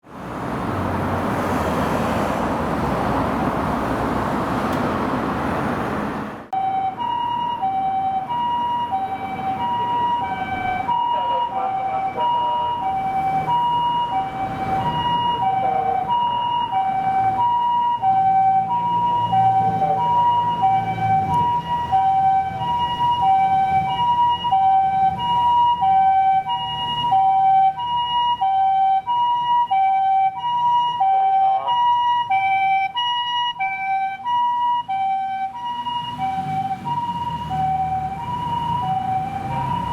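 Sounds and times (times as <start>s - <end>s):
loud rushing road noise: 0.0s - 39.9s
two-tone ambulance siren: 6.5s - 39.9s.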